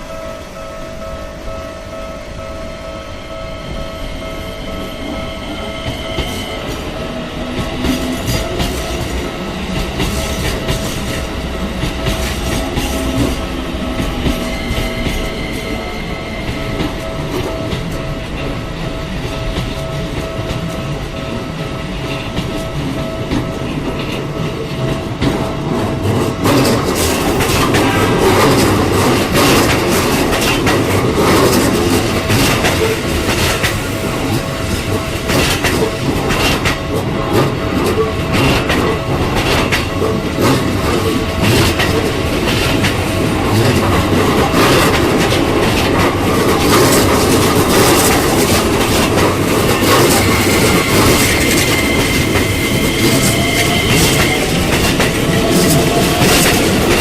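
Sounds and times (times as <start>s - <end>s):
train wheels clattering: 3.9s - 57.0s.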